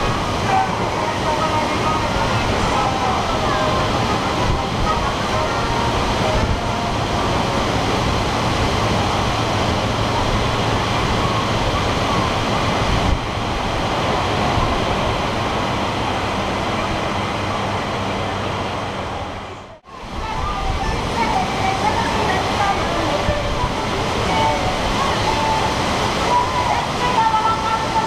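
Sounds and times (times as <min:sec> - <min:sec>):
blower fans rushing air: 0:00.0 - 0:28.0
low steady hum: 0:00.0 - 0:28.0.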